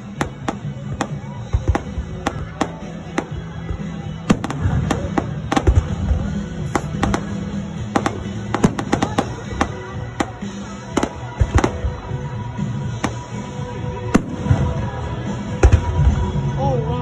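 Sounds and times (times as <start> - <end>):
heavy fireworks booms: 0.0 - 16.5
fireworks bangs and crackles: 0.0 - 16.6
music playing: 0.0 - 17.0.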